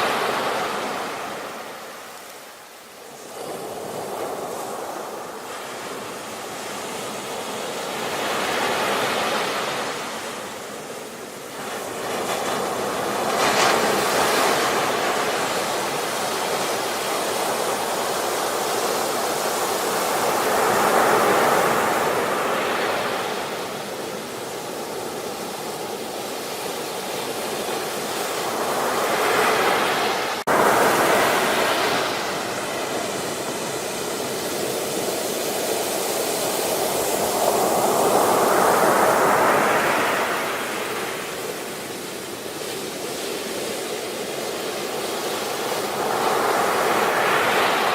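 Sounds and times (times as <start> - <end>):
ocean surf breaking: 0.0 - 47.9.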